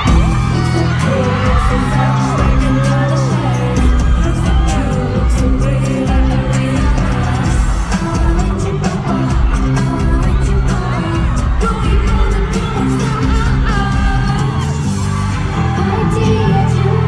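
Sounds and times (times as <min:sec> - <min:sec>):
pop song over sound system: 0:00.0 - 0:17.0.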